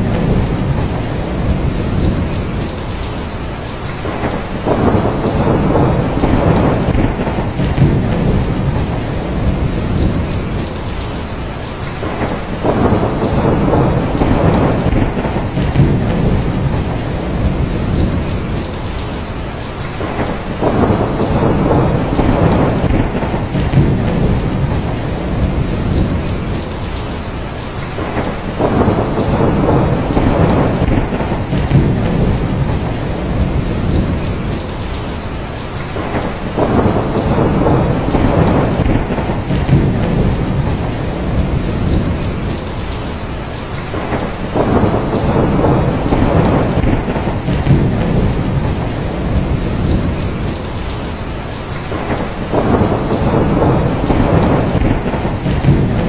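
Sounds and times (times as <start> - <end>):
rolling thunder: 0.0 - 56.0
steady rain: 0.0 - 56.0.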